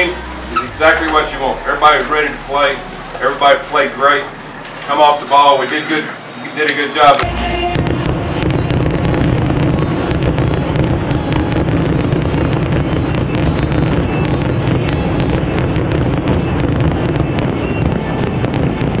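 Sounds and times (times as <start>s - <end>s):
firework bursts crackling: 0.0s - 6.3s, 7.2s - 19.0s.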